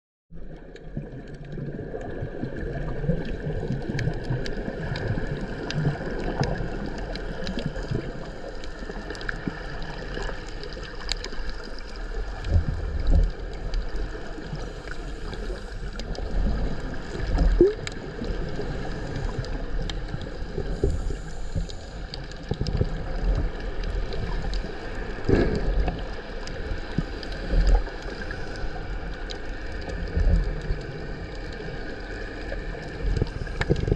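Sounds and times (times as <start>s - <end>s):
water gurgling and sloshing: 0.3s - 33.9s.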